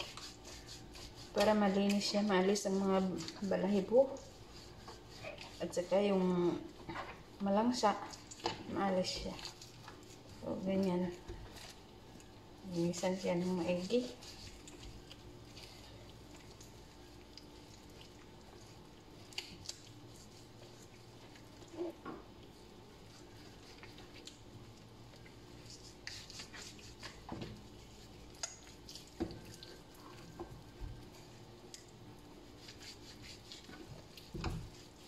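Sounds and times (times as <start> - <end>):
hands rubbing wet raw chicken: 0.0 - 35.0.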